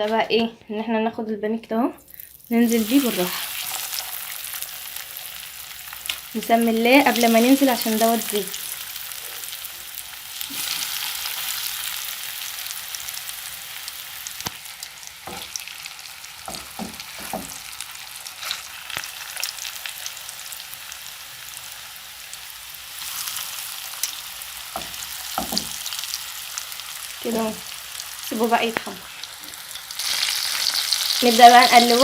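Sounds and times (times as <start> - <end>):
cutlets sizzling in oil: 2.1 - 32.0
oil crackling and popping: 2.1 - 32.0.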